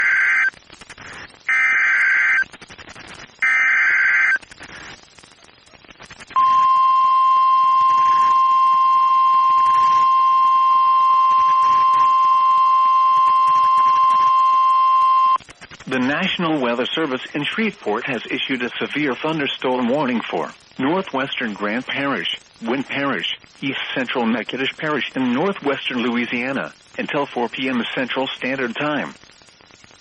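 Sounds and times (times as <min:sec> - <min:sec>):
buzzy data bursts: 0:00.0 - 0:30.0.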